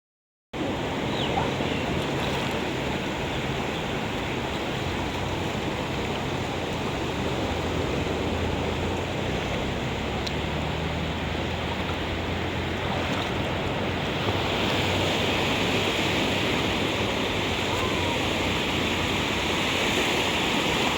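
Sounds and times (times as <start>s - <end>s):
waves washing onto beach: 0.6s - 20.9s.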